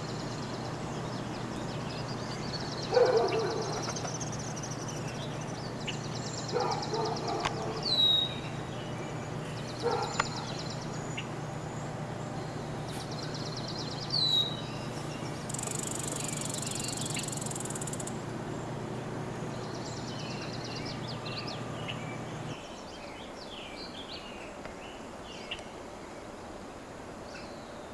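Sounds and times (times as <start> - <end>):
birds giving trilled calls: 0.0 - 22.5
low hum: 0.0 - 22.6.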